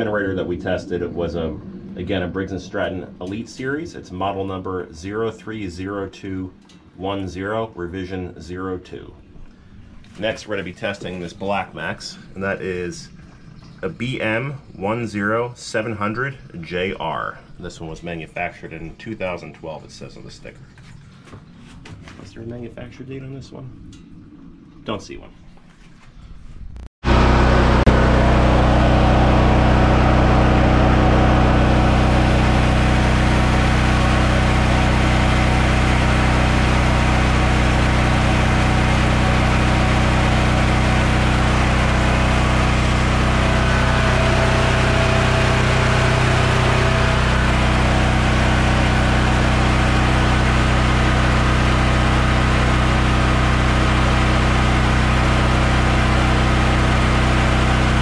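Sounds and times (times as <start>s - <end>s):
generator running: 0.0s - 17.7s, 27.0s - 58.0s.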